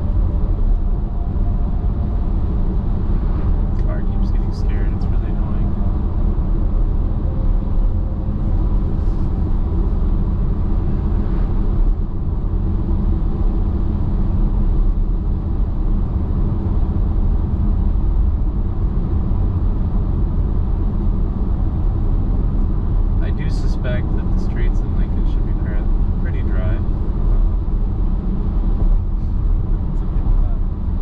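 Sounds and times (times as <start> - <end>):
car engine hum: 0.0 - 31.0
road and tyre noise: 0.0 - 31.0.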